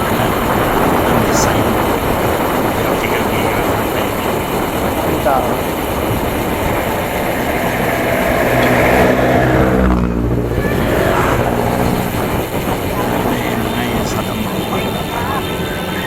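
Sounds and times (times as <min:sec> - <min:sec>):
motor vehicle passing: 0:00.0 - 0:16.0
wind noise: 0:00.0 - 0:16.0.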